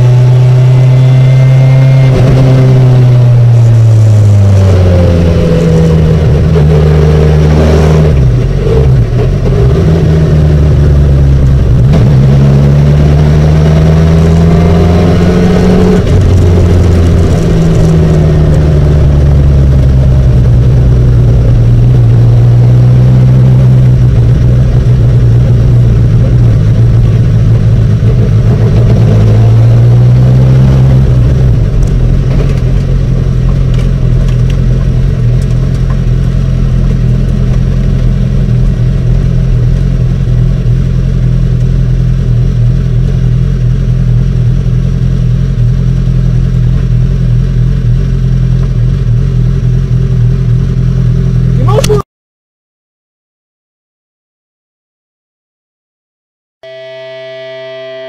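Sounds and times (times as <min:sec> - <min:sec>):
car engine running at low revs: 0:00.0 - 0:52.0.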